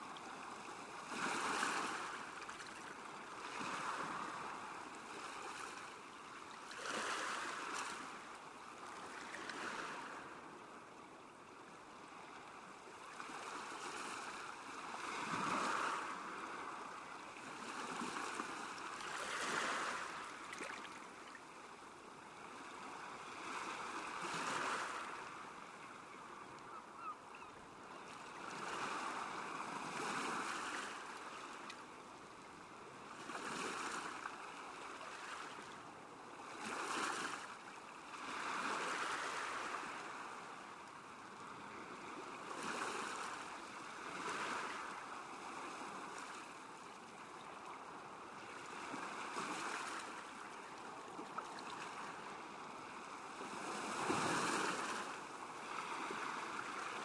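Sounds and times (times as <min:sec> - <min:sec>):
small waves lapping at a shore: 0:00.0 - 0:57.0.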